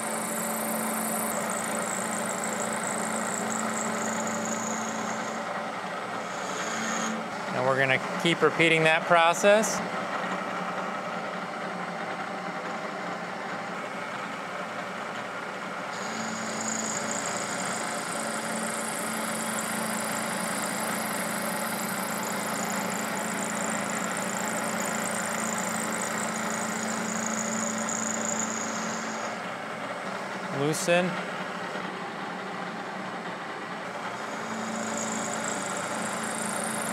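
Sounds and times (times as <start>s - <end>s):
low machine hum: 0.0s - 36.9s
milling machine high whine: 0.0s - 36.9s.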